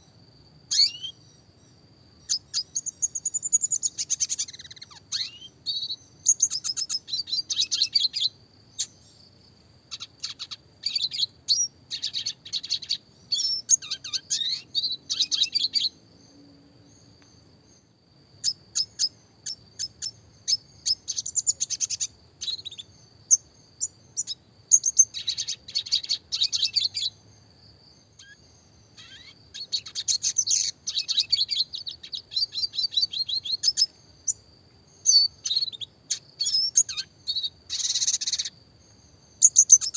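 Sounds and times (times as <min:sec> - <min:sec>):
bird twittering and trilling: 0:00.7 - 0:09.3, 0:09.9 - 0:16.3, 0:18.4 - 0:38.6, 0:39.2 - 0:39.9.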